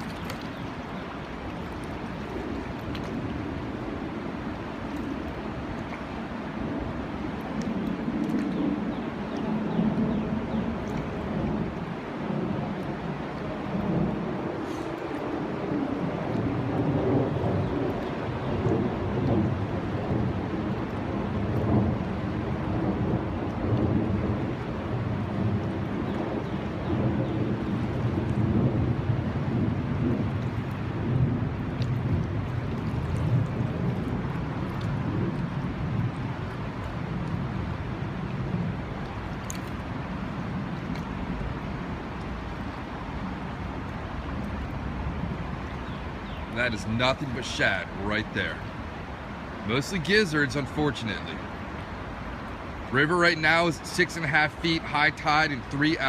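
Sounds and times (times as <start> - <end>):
floodwater rushing: 0.0 - 56.0
wind on microphone: 0.0 - 56.0.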